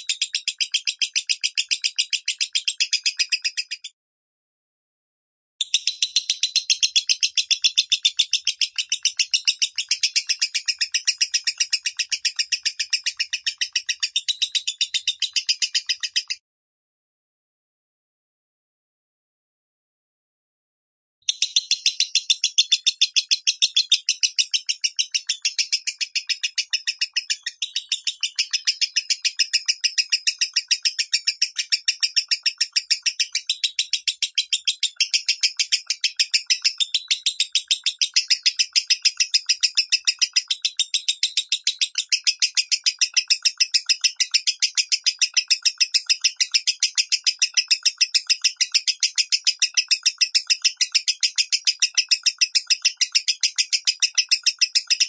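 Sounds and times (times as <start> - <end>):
bird rapid harsh chirps: 0.0 - 3.9, 5.6 - 16.4, 21.3 - 55.0.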